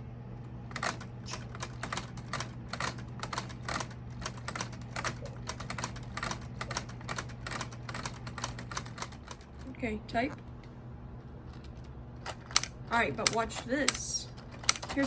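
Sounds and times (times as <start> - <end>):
toy typewriter keys clacking: 0.7 - 9.7, 11.5 - 15.0.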